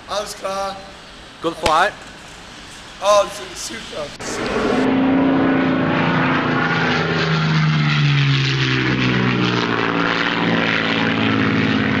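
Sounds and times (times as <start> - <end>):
aircraft engine passing: 0.0 - 12.0.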